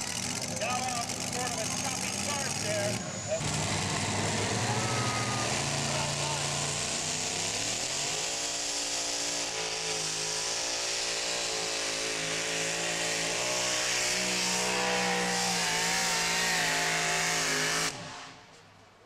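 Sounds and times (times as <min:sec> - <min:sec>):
truck engine at full load: 0:00.0 - 0:18.7.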